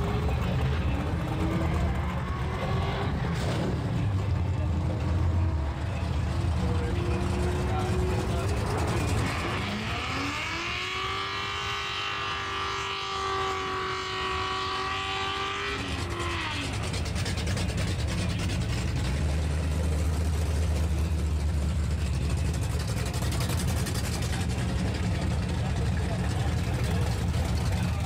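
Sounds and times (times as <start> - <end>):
car engine revving: 0.0 - 28.0
deep engine rumble: 0.0 - 28.0.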